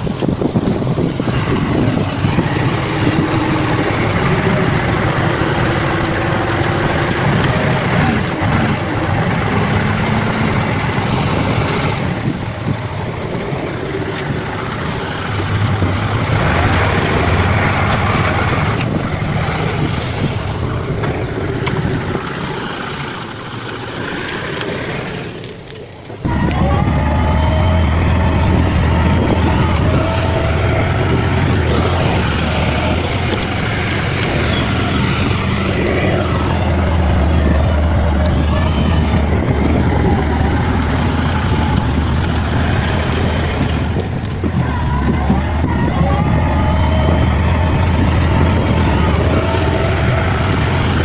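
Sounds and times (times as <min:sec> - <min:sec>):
bulldozer diesel engine: 0:00.0 - 0:51.0.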